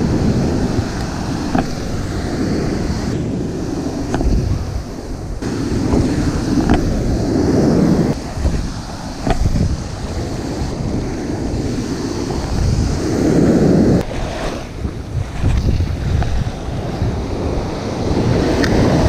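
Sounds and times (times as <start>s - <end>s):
ocean surf washing ashore: 0.0s - 19.0s
wind buffeting microphone: 0.0s - 19.0s.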